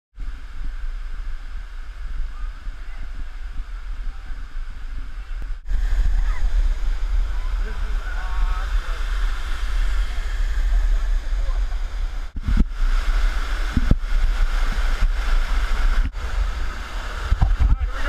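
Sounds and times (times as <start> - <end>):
wind rumbling on microphone: 0.1 - 18.0
waterfall rushing: 0.3 - 18.0.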